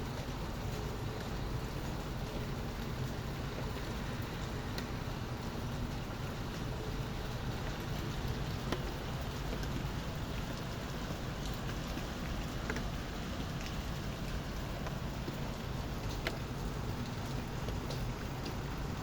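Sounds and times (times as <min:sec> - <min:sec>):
raindrops ticking: 0:00.0 - 0:19.0
steady rain hissing: 0:00.0 - 0:19.0.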